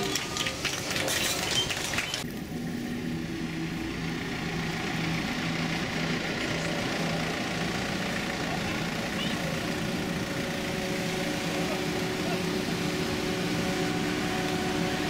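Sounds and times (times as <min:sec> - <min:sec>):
minibus engine idling: 0:00.0 - 0:15.0.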